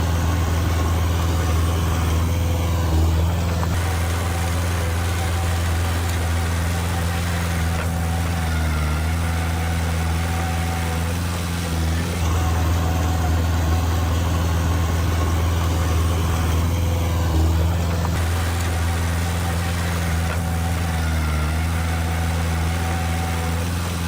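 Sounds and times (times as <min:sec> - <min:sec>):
heavy diesel engine droning: 0:00.0 - 0:24.0.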